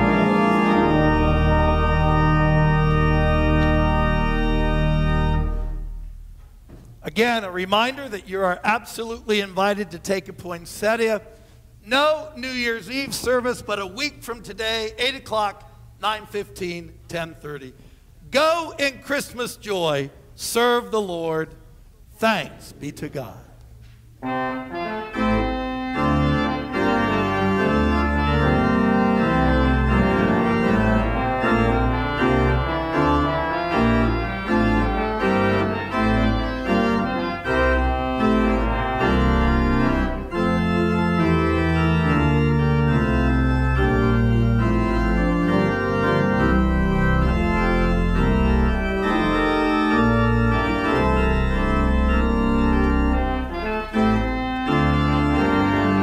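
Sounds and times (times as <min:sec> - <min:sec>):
church organ playing chords: 0:00.0 - 0:06.4, 0:07.1 - 0:21.6, 0:24.2 - 0:56.0.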